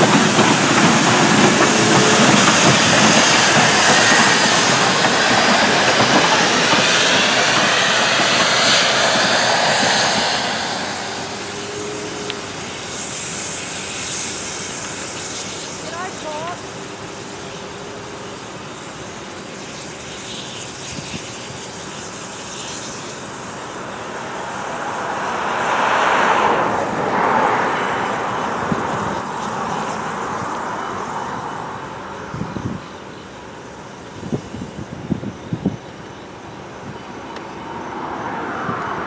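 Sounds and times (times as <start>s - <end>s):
steam locomotive exhaust: 0.0s - 39.0s.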